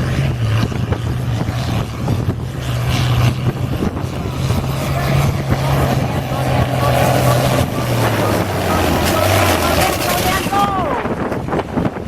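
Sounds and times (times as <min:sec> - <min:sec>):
tractor engine running hard: 0:00.0 - 0:12.0.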